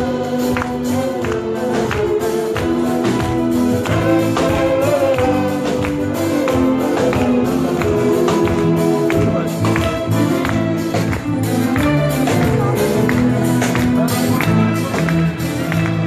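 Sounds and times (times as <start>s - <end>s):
drum and percussion beat: 0.0s - 16.0s
held keyboard notes: 0.0s - 16.0s.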